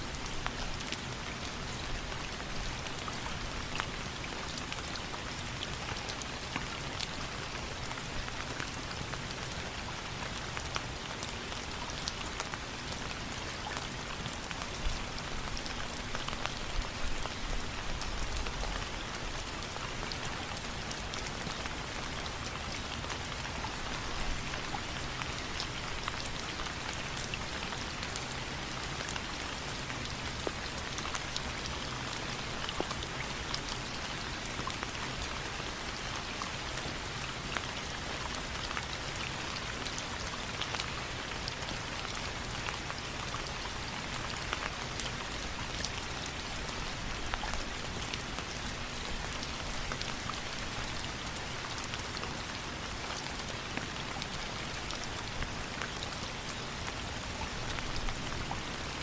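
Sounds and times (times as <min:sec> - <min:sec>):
sharp ticks of raindrops: 0:00.0 - 0:59.0
steady rain falling: 0:00.0 - 0:59.0.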